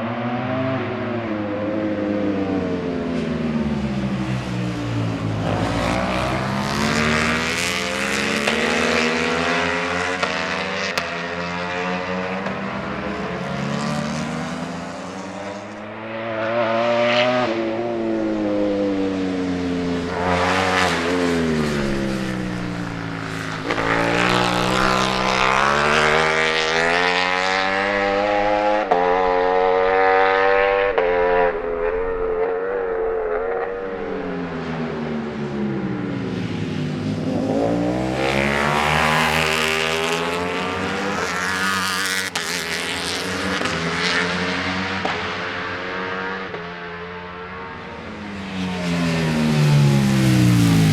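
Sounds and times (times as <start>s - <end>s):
motorcycles revving past: 0.0s - 50.9s.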